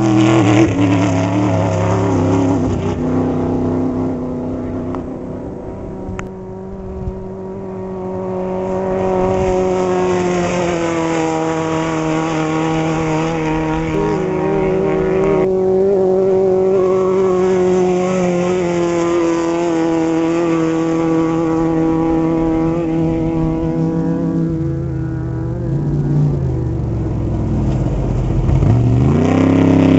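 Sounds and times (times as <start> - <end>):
race vehicle engine droning: 0.0 - 29.9.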